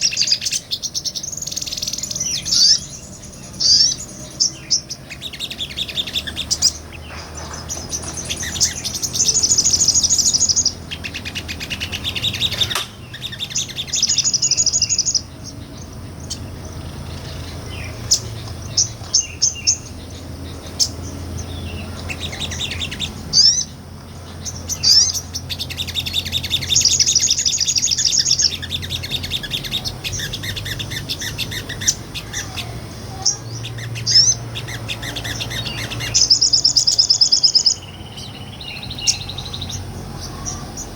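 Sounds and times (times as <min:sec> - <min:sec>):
bird singing rapid trills: 0:00.0 - 0:40.9.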